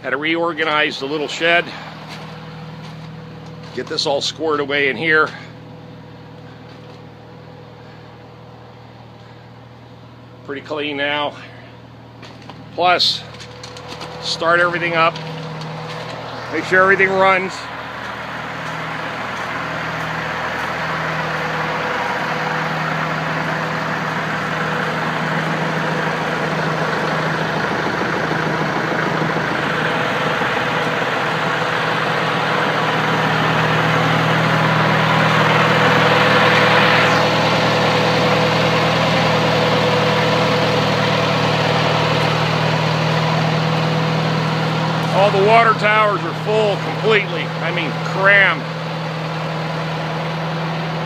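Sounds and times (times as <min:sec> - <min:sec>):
tractor engine idling: 0:00.0 - 0:51.0.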